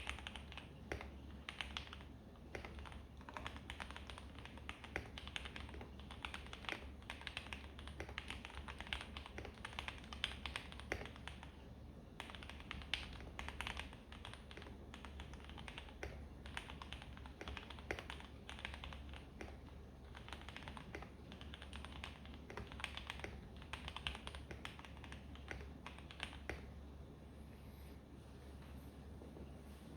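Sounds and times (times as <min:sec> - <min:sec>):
mechanical keyboard typing: 0:00.0 - 0:11.6, 0:12.2 - 0:26.7.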